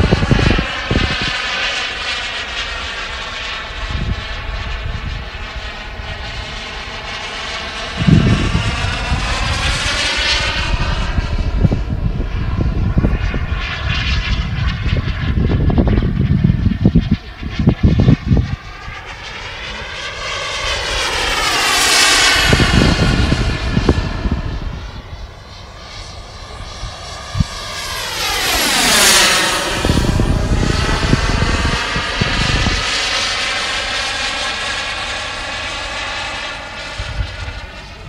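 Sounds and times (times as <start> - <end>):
deep rumble: 0.0 - 34.2
model jet turbine passing: 0.0 - 38.0.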